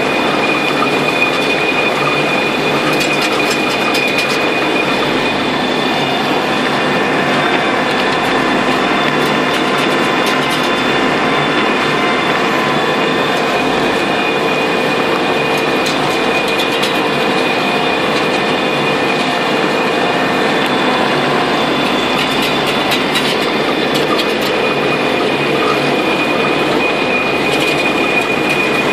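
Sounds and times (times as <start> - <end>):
conveyor clatter: 0.0 - 28.9
engine running: 0.0 - 28.9
high whine: 0.0 - 28.9.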